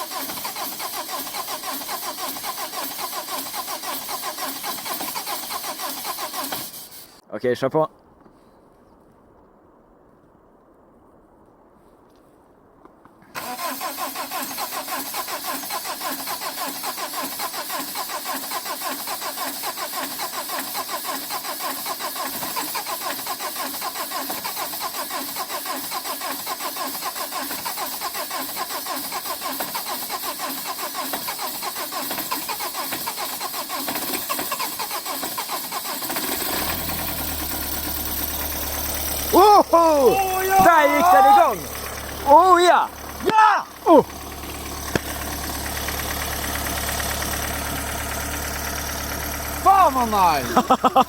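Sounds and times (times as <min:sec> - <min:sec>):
engine firing rumble: 0:00.0 - 0:07.2, 0:13.4 - 0:51.0
starter motor cranking engine: 0:00.0 - 0:07.2, 0:13.4 - 0:51.0.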